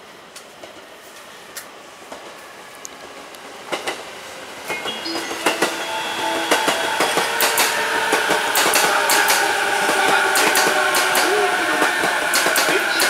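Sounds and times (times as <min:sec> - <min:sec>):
train running on tracks: 0:00.0 - 0:13.0.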